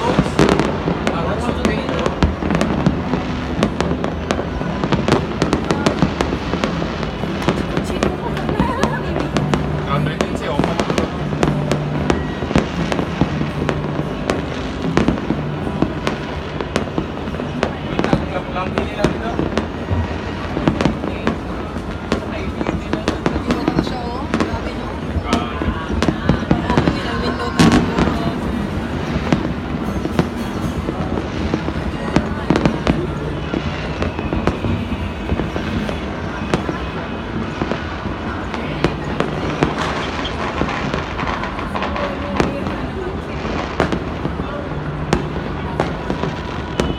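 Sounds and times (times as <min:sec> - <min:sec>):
firecracker bangs: 0:00.0 - 0:46.9
fireworks crackling: 0:00.0 - 0:46.9.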